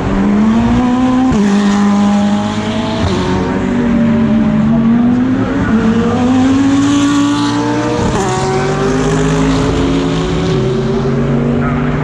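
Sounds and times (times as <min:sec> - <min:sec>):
race car engines accelerating: 0:00.0 - 0:12.0.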